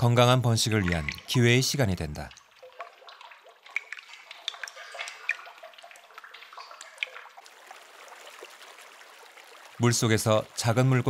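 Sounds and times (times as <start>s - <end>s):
water drops plinking into pool: 0.0s - 11.0s.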